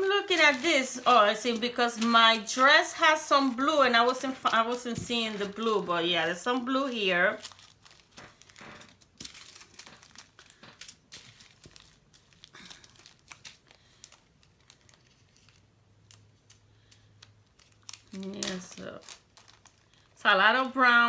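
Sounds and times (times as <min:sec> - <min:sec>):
plastic bags crinkling: 0:00.0 - 0:20.7.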